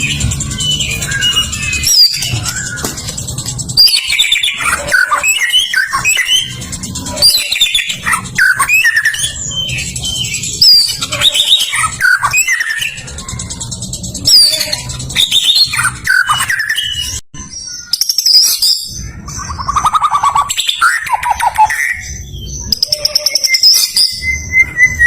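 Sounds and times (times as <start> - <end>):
bird singing: 0.0 - 25.0.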